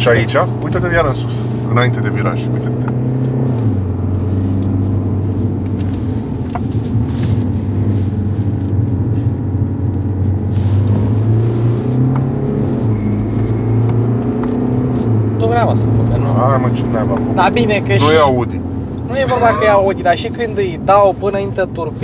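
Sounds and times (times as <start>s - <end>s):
diesel engine running: 0.0s - 22.0s
tyre and road noise: 0.0s - 22.0s.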